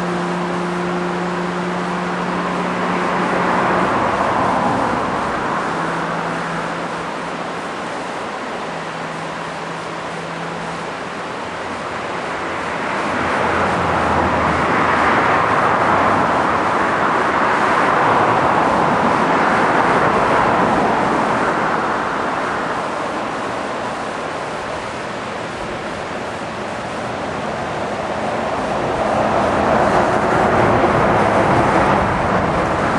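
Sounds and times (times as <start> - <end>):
passing vehicle rushing: 0.0 - 23.7, 26.3 - 32.9.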